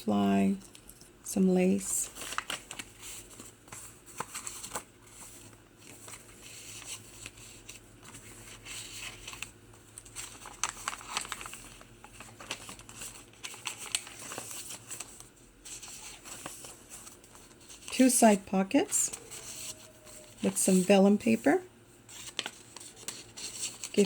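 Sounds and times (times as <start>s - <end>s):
paper pages rustling: 1.6s - 21.5s, 22.1s - 24.0s.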